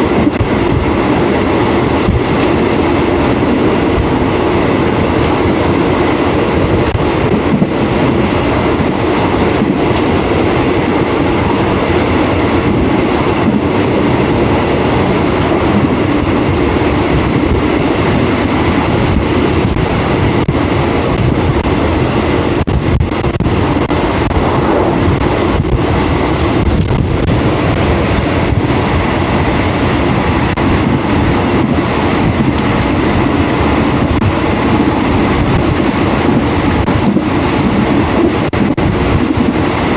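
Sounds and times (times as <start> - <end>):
sharp clicks of train: 0.0 - 24.4, 25.0 - 39.9
train rumbling on tracks: 0.0 - 39.9.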